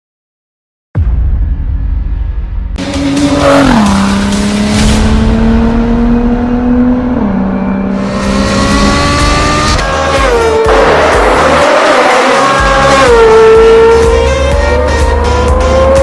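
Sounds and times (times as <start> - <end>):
car engine accelerating hard: 2.8 - 16.0.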